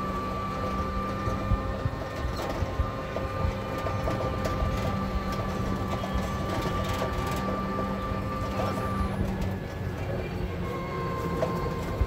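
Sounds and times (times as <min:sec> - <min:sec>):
clicks and rattles of vehicle body: 0:00.0 - 0:12.0
rickshaw engine hum: 0:00.0 - 0:12.0.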